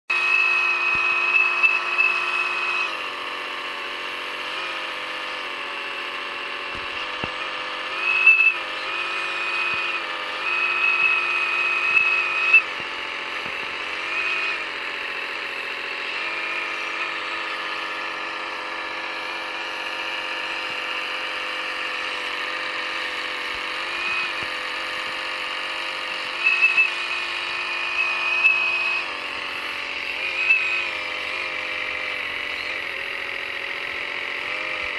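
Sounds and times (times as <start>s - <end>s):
electric motors whining: 0.1s - 34.9s.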